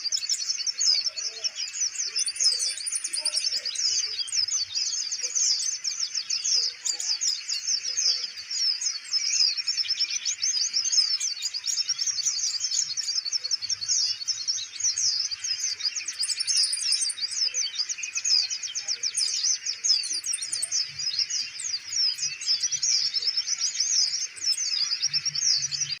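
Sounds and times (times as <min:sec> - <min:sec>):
sunbird singing high chattering song: 0:00.0 - 0:26.0.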